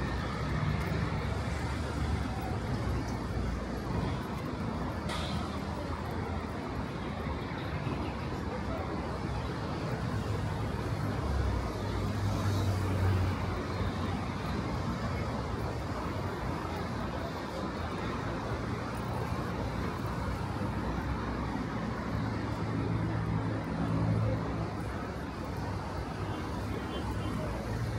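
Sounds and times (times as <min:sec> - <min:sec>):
cars passing: 0:00.0 - 0:27.9.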